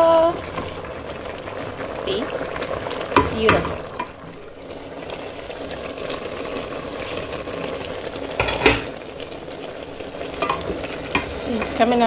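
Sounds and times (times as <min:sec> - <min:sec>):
porridge bubbling and crackling: 0:00.0 - 0:12.0.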